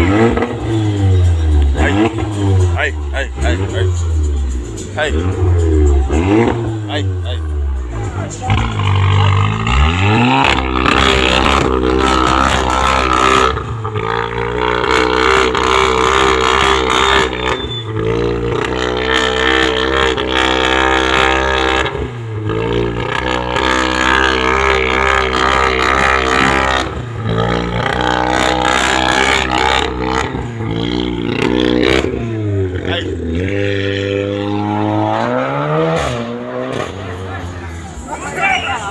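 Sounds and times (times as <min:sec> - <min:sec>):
car engine and exhaust under load: 0:00.0 - 0:38.9.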